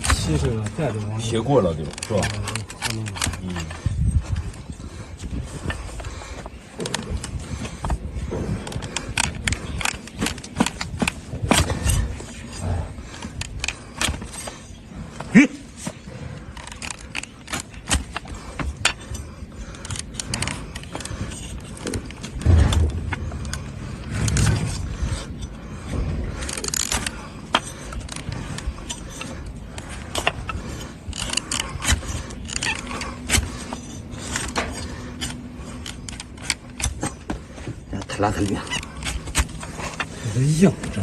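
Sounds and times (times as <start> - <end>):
hoof knife scraping hoof: 0.0 - 41.0.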